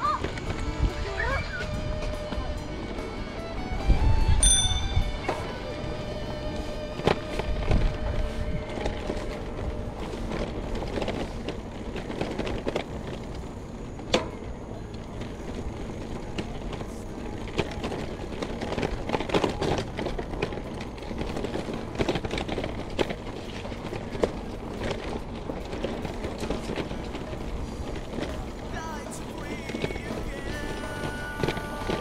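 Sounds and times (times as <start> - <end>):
vehicle and road noise: 0.0 - 32.0.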